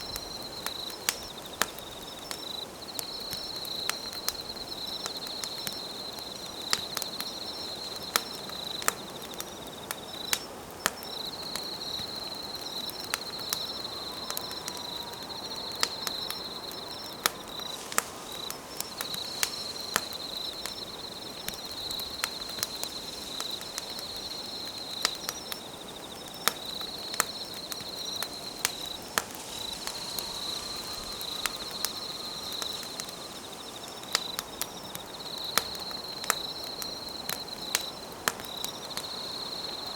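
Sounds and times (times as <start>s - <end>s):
campfire crackling: 0.0s - 39.9s
insects trilling: 0.0s - 39.9s.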